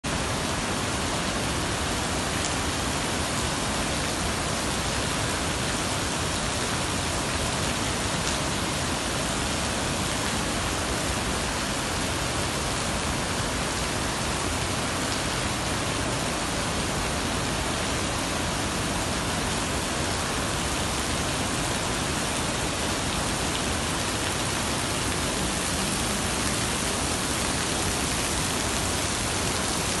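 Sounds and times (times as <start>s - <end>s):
water rushing: 0.1s - 30.0s.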